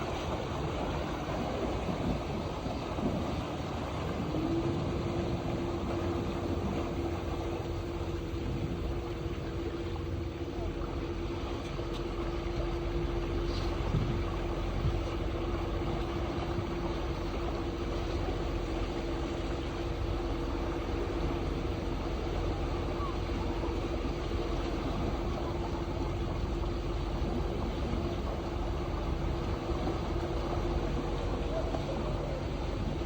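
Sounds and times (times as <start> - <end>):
boat motor humming: 0.0 - 33.0
rushing water and air: 0.0 - 33.0.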